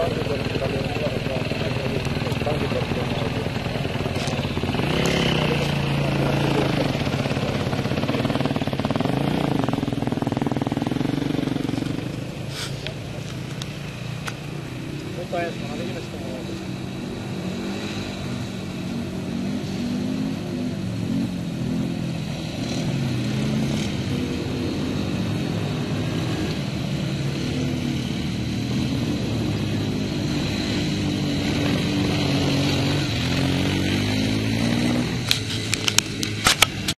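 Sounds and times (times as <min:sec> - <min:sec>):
quad bike engines revving: 0:00.0 - 0:36.9.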